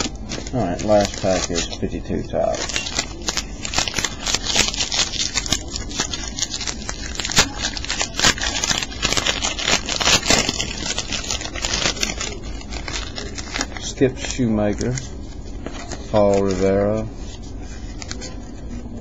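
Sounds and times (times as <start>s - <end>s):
wrapper crinkling: 0.0s - 19.0s.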